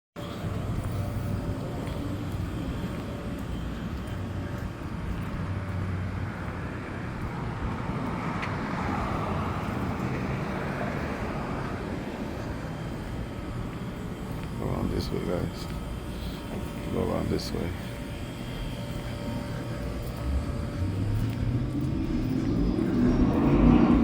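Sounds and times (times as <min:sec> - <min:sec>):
road traffic rumble: 0:00.2 - 0:24.0
vehicle passing: 0:04.2 - 0:24.0.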